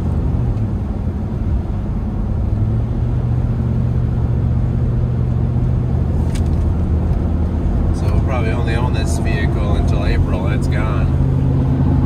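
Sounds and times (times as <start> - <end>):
tyres on snowy road: 0.0 - 12.0
vehicle engine rumble: 0.0 - 12.0.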